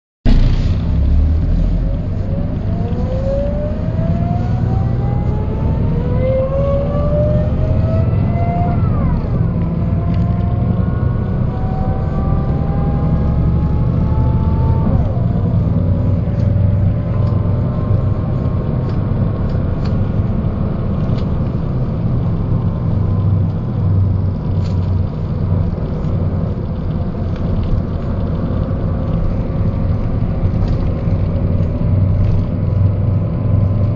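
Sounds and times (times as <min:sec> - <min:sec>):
bus accelerating: 0:00.3 - 0:33.9.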